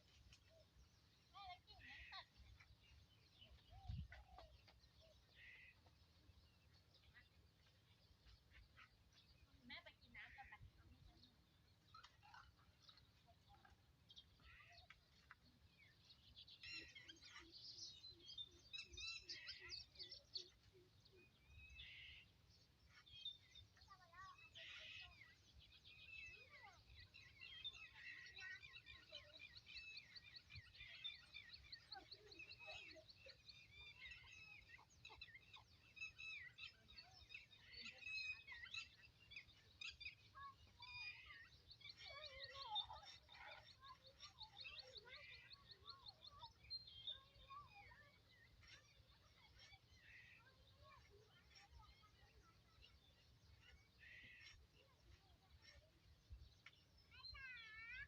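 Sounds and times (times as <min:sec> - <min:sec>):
faint birdsong: 0:00.0 - 0:58.0.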